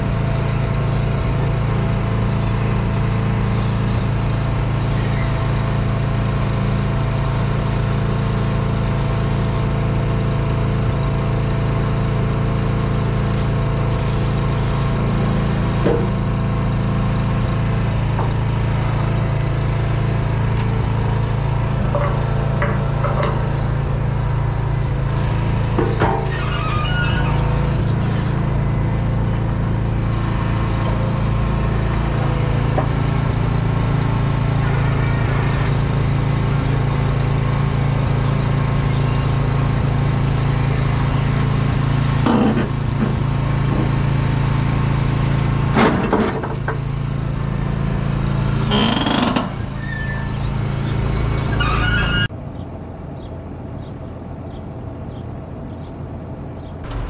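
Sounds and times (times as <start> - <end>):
heavy diesel engine running: 0.0 - 52.4, 56.8 - 57.0.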